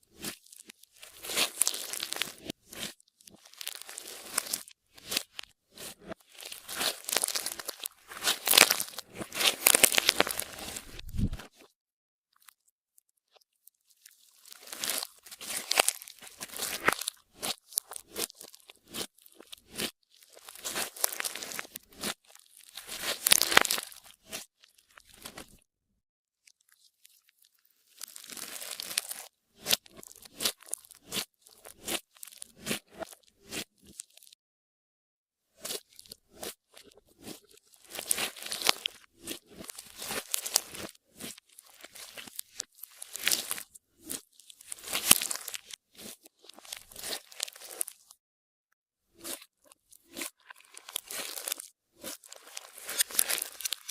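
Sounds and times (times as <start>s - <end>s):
slime squishing by hand: 0.1s - 11.7s, 13.8s - 25.6s, 27.9s - 34.3s, 35.6s - 48.1s, 49.2s - 53.9s.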